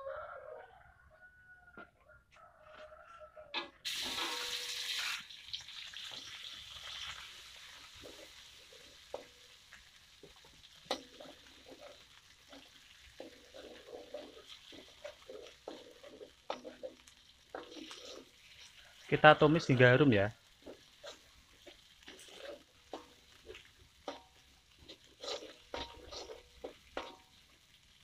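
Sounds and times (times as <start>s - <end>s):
metal spatula scraping wok: 3.6s - 5.2s, 6.1s - 27.9s
spice paste sizzling in oil: 3.9s - 28.0s.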